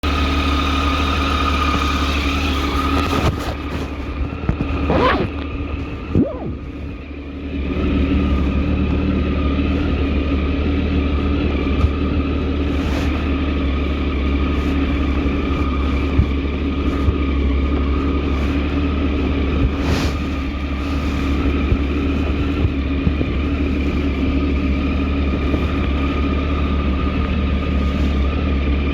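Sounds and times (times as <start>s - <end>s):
vehicle engine droning: 0.0s - 28.9s.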